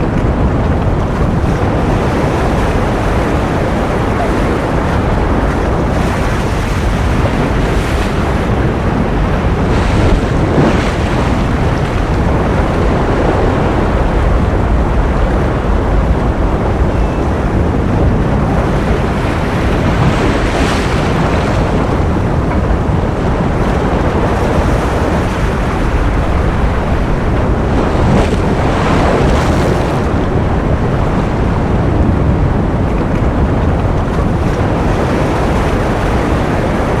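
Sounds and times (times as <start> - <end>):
ocean waves rushing: 0.0 - 37.0.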